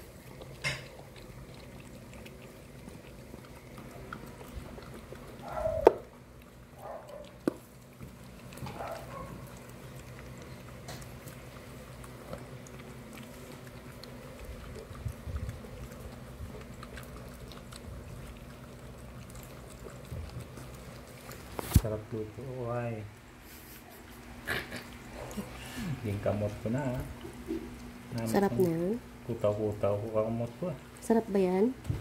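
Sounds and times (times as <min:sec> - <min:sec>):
dogs lapping and chewing: 0:00.0 - 0:32.0.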